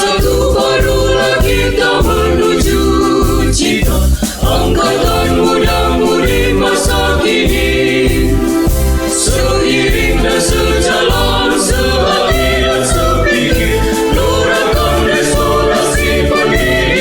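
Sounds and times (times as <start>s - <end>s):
choir singing: 0.0s - 17.0s
low pulsing beat: 0.0s - 17.0s.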